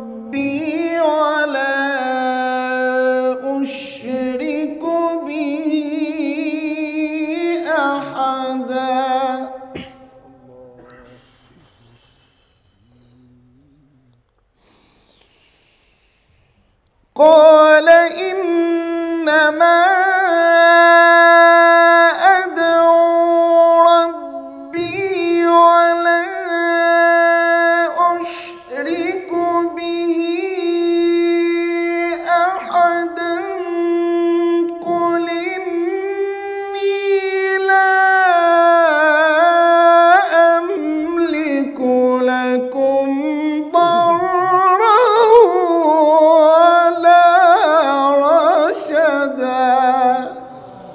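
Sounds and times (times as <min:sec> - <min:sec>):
man reciting melodically: 0:00.0 - 0:13.6, 0:17.1 - 0:50.9.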